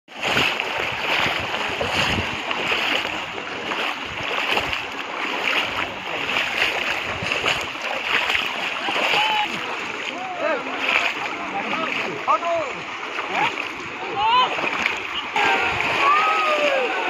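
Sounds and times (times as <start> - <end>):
water splashing and sloshing: 0.1 - 17.0.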